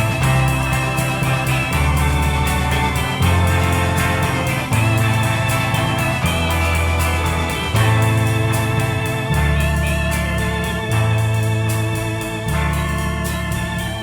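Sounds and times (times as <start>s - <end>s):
bass: 0.0s - 14.0s
drums and cymbal beat: 0.0s - 14.0s
organ: 0.0s - 14.0s.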